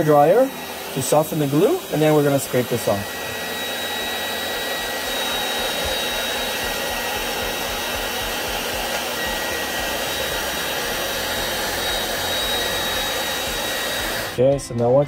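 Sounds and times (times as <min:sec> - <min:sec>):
hair dryer blowing: 0:00.0 - 0:14.6.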